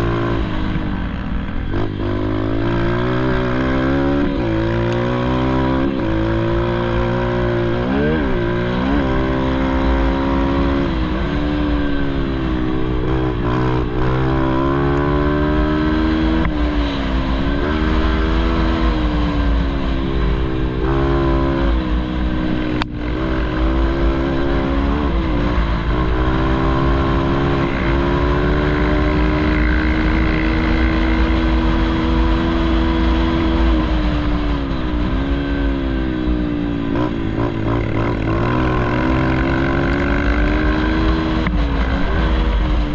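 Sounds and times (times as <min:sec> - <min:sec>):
pit bike engine revving: 0:00.0 - 0:42.9.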